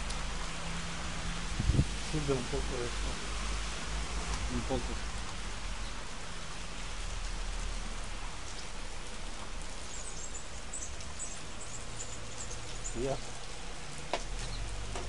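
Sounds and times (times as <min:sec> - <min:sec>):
heavy rain on street: 0:00.0 - 0:15.0.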